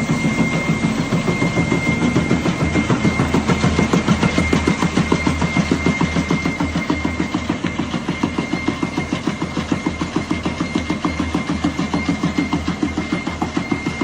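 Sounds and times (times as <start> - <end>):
debarking machine clattering: 0.0 - 14.0.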